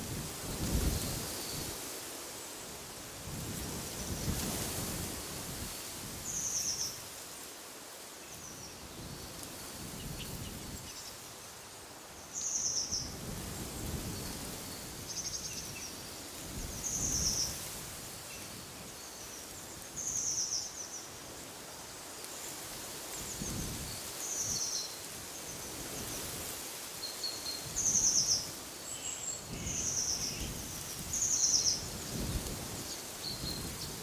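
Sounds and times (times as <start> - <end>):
wind rushing through trees: 0.0 - 34.0.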